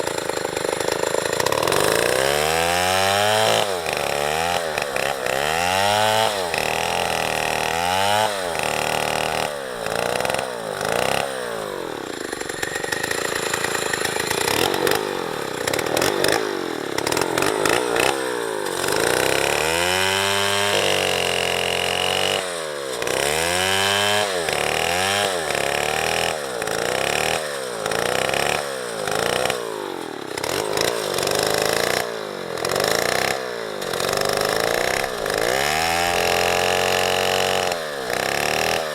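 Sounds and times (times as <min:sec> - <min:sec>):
chainsaw cutting tree: 0:00.0 - 0:38.9.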